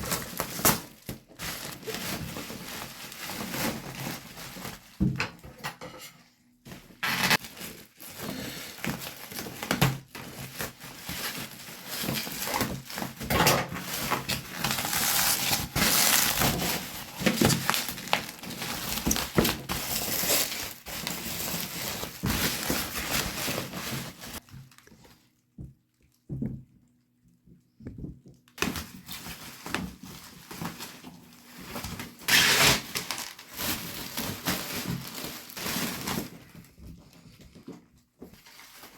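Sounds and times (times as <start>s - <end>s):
cardboard and plastic rustling: 0.0s - 6.0s, 6.6s - 26.7s, 27.6s - 38.9s.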